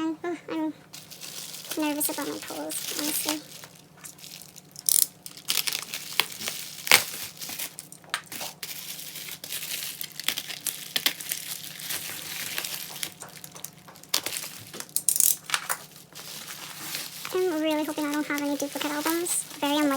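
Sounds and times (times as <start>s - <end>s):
packaging crinkling and rustling: 0.9s - 19.9s.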